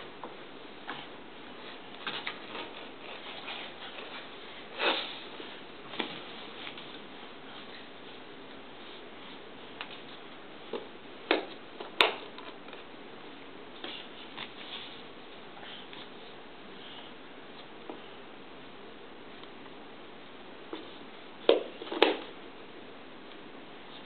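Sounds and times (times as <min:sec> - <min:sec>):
room hiss: 0:00.0 - 0:24.0.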